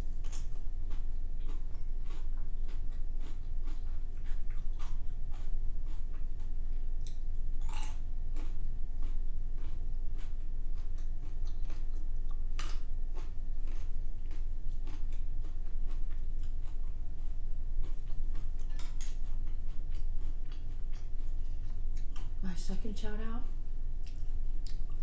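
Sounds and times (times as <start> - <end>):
steady low hum: 0.0 - 25.0
wet chewing clicks and smacks: 0.2 - 22.4, 24.0 - 25.0.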